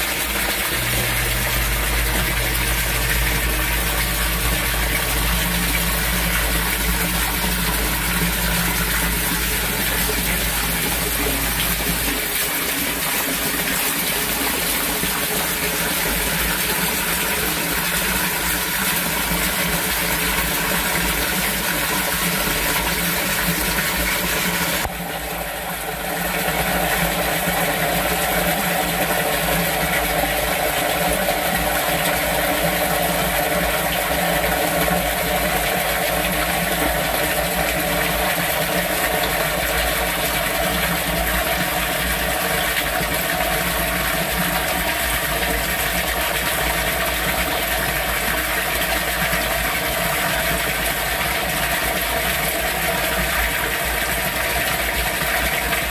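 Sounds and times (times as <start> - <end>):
mechanical hum: 0.0 - 55.9
storm water rushing: 0.0 - 55.9.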